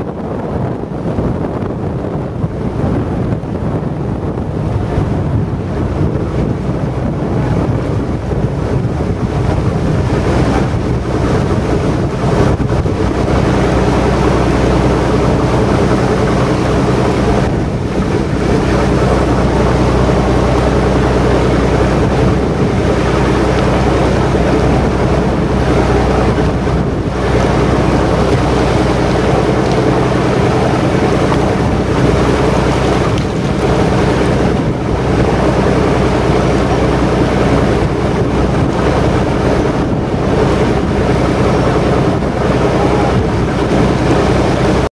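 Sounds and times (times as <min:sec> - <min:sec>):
boat engine droning: 0:00.0 - 0:44.9
wind on microphone: 0:00.0 - 0:44.9.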